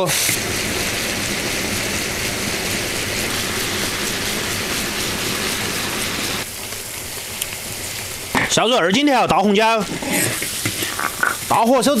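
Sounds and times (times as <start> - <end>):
stock bubbling in a wok: 0.0 - 12.0.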